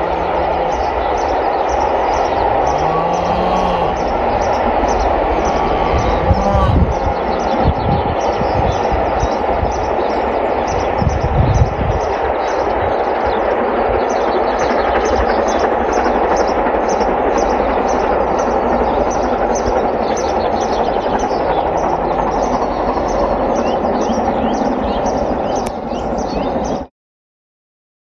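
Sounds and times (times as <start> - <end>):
steam locomotive roar: 0.0 - 26.8
birds singing: 0.0 - 26.9.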